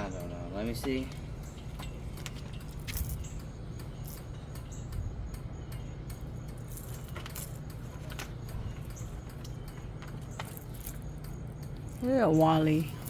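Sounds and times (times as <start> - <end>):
light metallic clicks and clinks: 0.0 - 13.0.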